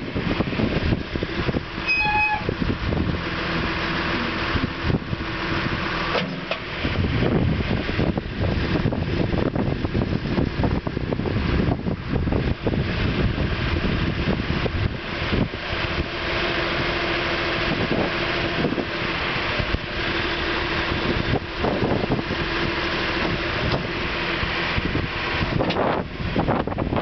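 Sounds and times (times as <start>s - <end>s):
backhoe diesel engine running: 0.0s - 27.0s.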